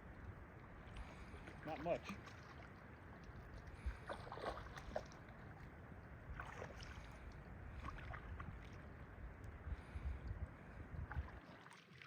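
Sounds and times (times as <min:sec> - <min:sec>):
low steady river rumble: 0:00.0 - 0:12.0
small water splashes and drips: 0:00.0 - 0:12.0.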